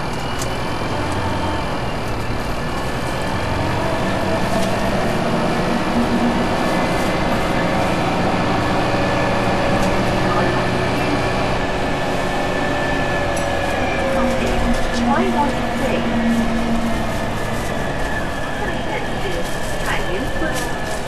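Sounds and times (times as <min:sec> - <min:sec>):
bus engine rumble and whine: 0:00.0 - 0:21.0.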